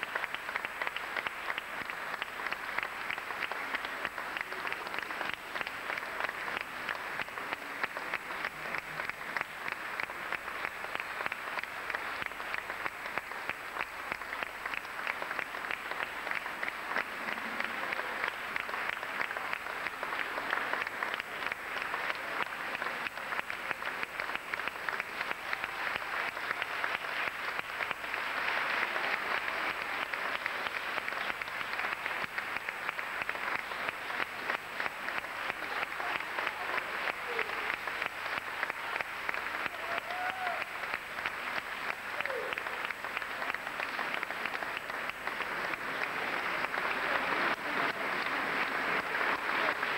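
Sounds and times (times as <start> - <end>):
audience applause: 0.0 - 49.9.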